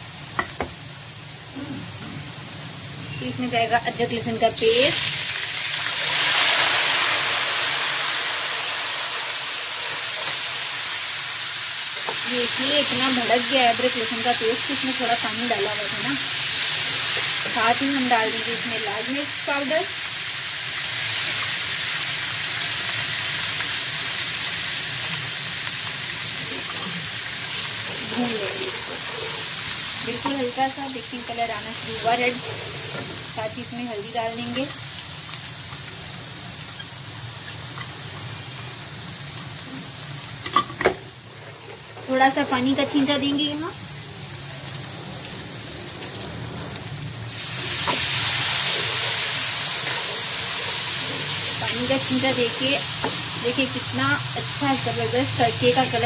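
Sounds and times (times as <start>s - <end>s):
hot oil sizzling and spitting: 0.0s - 56.0s.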